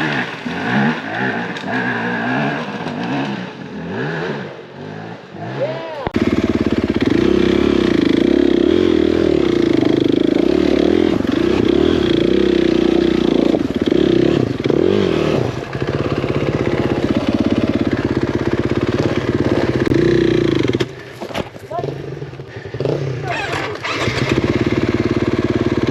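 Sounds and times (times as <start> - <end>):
dirt bike engine revving: 0.0 - 21.1, 21.7 - 25.9.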